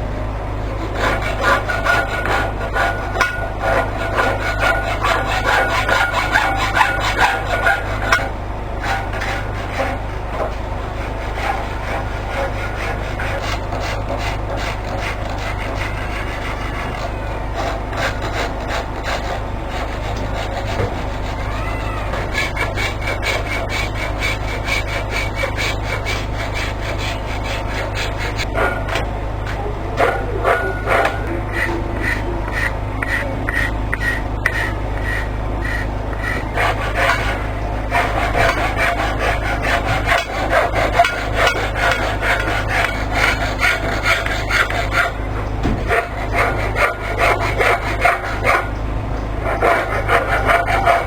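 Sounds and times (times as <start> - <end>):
low hum: 0.0 - 51.0
hand tool rasping wood: 0.8 - 51.0.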